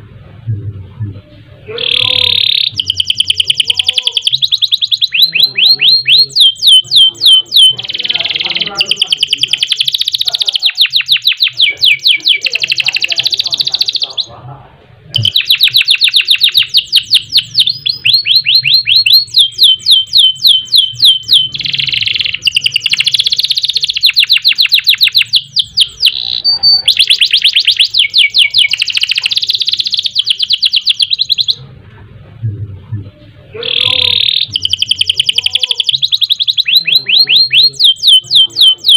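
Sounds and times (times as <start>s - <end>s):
canary singing trills: 1.2s - 14.4s, 15.1s - 31.8s, 33.0s - 38.9s.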